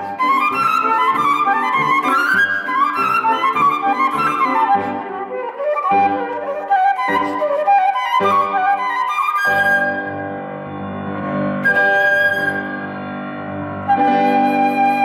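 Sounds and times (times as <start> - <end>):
flute playing: 0.0 - 15.0
piano chords: 0.0 - 15.0.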